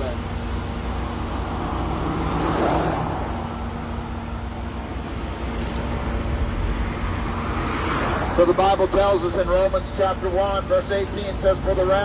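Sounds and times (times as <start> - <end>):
road traffic rumble: 0.0 - 12.0
car passing: 0.5 - 12.0.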